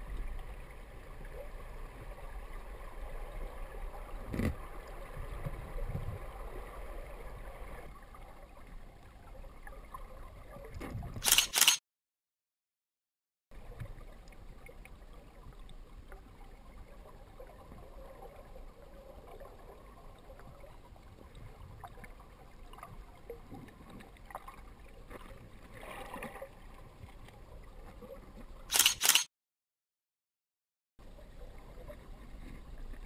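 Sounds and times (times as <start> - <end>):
muffled underwater river rush: 0.0 - 11.2, 13.5 - 28.7, 31.0 - 33.0.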